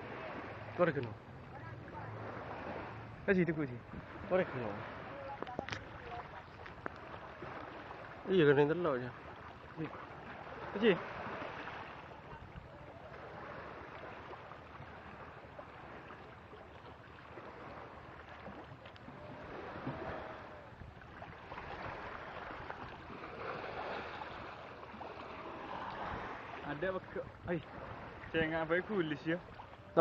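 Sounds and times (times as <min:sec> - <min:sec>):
rushing water: 0:00.0 - 0:30.0
wind: 0:00.0 - 0:30.0.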